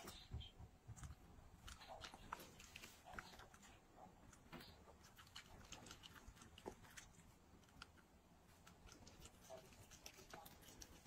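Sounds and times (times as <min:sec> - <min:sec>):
dog chewing and licking food: 0:00.0 - 0:11.0.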